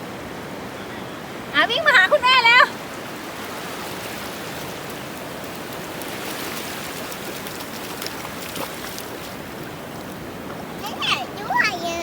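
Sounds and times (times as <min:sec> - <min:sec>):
surf washing on a beach: 0:00.0 - 0:12.0.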